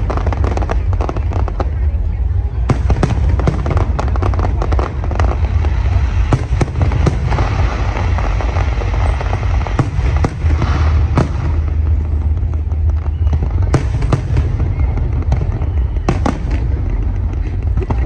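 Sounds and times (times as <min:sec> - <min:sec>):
fireworks bangs and crackling bursts: 0:00.0 - 0:18.0
low rumble: 0:00.0 - 0:18.0.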